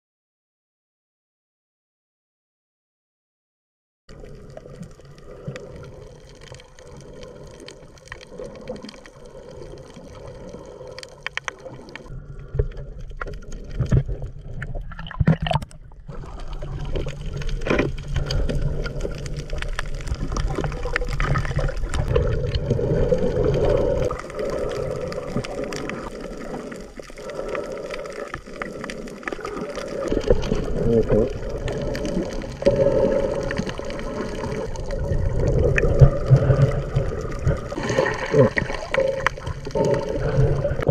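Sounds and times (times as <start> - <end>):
water sloshing and splashing: 4.3 - 40.9.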